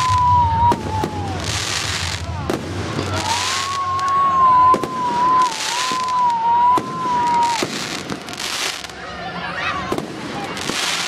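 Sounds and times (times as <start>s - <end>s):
firework bangs: 0.0s - 9.0s, 9.8s - 11.0s
firework whistle: 0.0s - 9.0s
firework hissing bursts: 0.0s - 9.1s, 9.9s - 11.0s.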